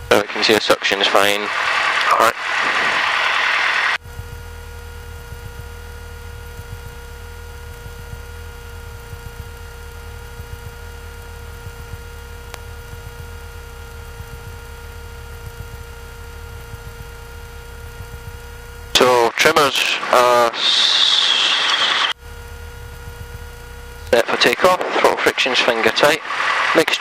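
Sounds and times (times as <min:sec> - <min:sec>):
aircraft engine idling: 0:00.0 - 0:27.0
electrical hum and whine: 0:00.0 - 0:27.0.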